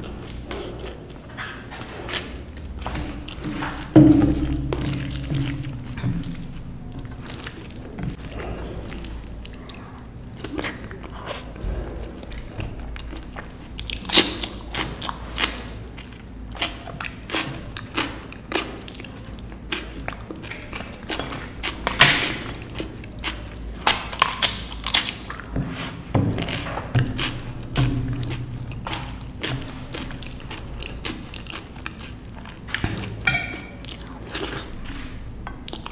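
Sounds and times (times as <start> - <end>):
chewing with wet mouth smacks: 0.0 - 25.6, 26.4 - 35.9.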